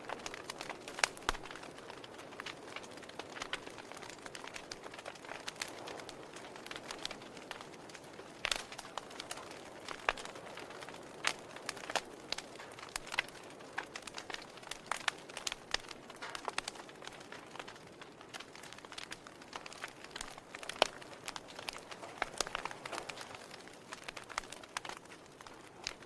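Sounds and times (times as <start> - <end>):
burning firewood popping: 0.0 - 26.0
soft steady hiss: 0.0 - 26.0
wood fire crackling: 0.0 - 26.0.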